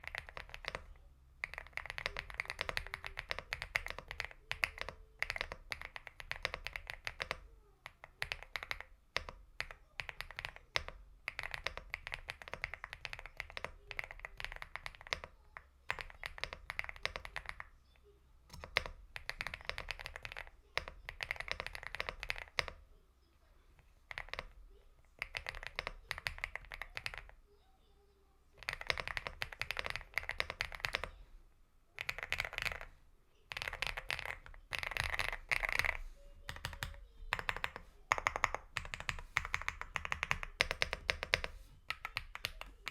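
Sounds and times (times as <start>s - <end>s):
mechanical keyboard typing: 0.0s - 17.7s, 18.5s - 22.8s, 24.1s - 27.4s, 28.6s - 31.2s, 32.0s - 32.9s, 33.5s - 42.9s.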